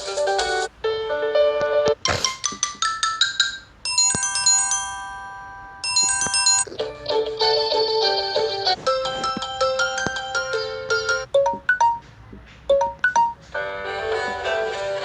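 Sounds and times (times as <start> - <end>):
phone ringtone melodies and chimes: 0.0 - 12.0, 12.7 - 14.4.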